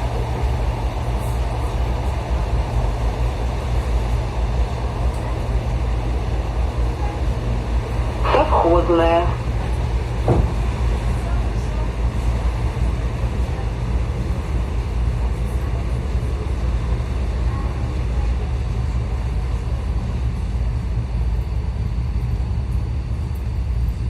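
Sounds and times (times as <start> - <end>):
electric train carriage rumble: 0.0 - 24.0.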